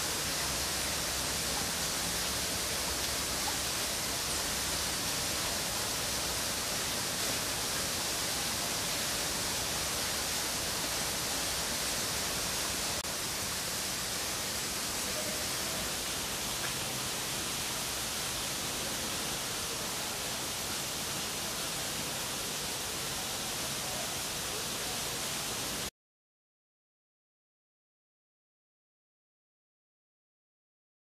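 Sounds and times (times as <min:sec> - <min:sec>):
outdoor background hiss: 0:00.0 - 0:25.9.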